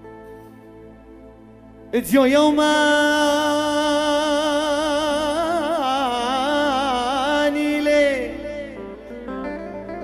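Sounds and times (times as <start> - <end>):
man singing a long vocal note: 1.9 - 10.0.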